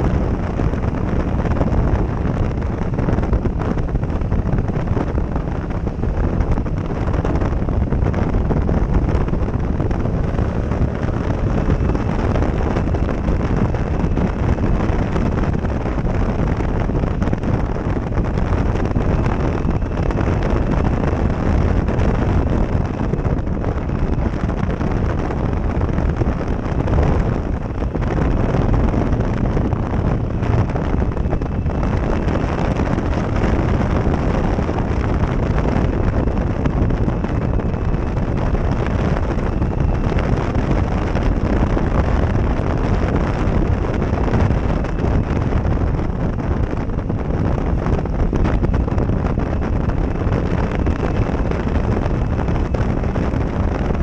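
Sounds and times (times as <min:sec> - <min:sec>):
motorcycle engine: 0:00.0 - 0:54.0
wind buffeting microphone: 0:00.0 - 0:54.0.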